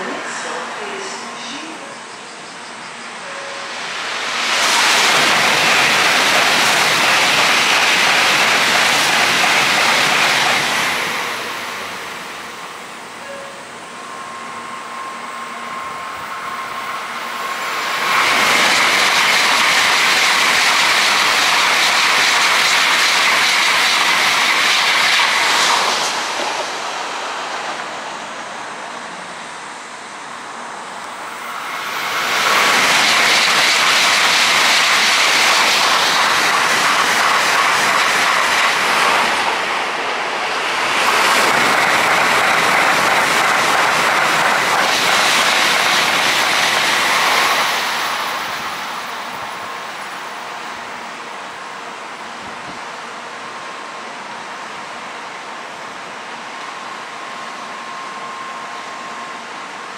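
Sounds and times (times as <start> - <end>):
high-speed trains rushing past: 0.0 - 59.9.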